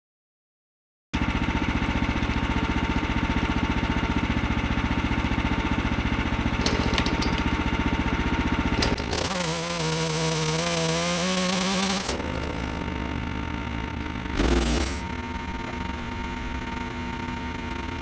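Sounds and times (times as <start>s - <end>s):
small engine running: 1.2s - 18.0s.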